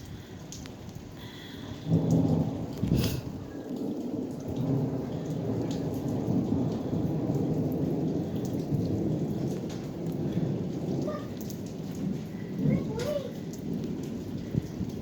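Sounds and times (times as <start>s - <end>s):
low rumble of thunder: 0.0s - 15.0s
rain falling: 0.0s - 15.0s.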